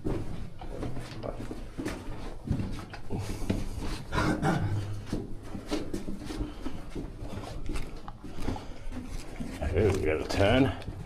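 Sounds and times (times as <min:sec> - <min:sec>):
footsteps on rocky floor: 0:00.0 - 0:11.0.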